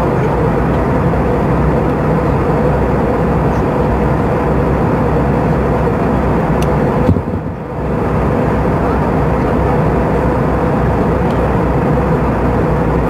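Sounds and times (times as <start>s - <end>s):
jet engine cabin drone: 0.0s - 13.0s
steady hum: 0.0s - 13.0s.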